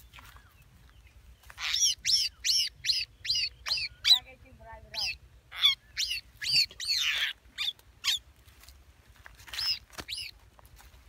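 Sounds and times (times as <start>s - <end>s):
bird high-pitched calls: 0.0s - 8.3s, 9.5s - 10.4s.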